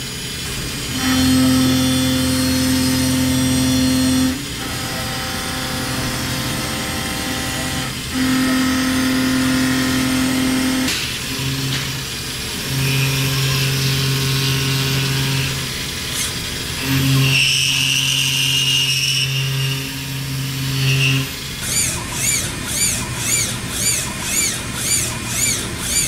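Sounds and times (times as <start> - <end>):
high cutting whine: 0.0 - 26.0
machine tool motor hum: 0.0 - 26.0.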